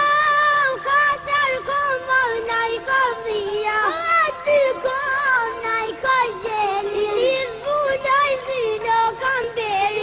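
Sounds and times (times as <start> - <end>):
high-pitched voice singing: 0.0 - 10.0.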